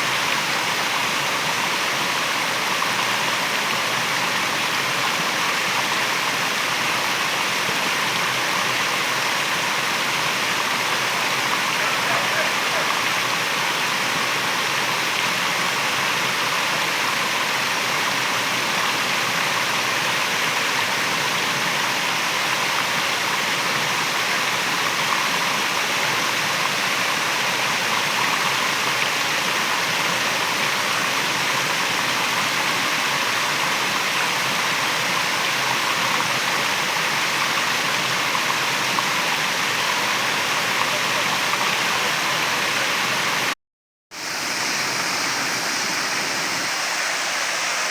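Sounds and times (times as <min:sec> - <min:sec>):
waterfall rushing: 0:00.0 - 0:43.6, 0:44.2 - 0:47.9.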